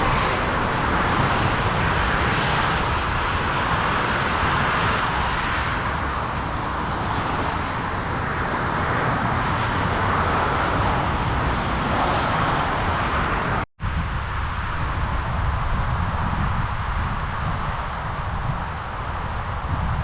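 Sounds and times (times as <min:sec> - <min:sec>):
motorway traffic roar: 0:00.0 - 0:20.0.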